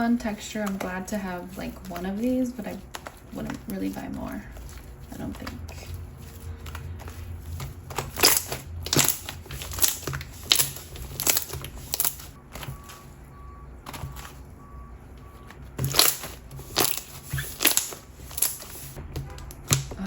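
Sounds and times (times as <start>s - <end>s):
slime squelching: 0.0s - 20.0s.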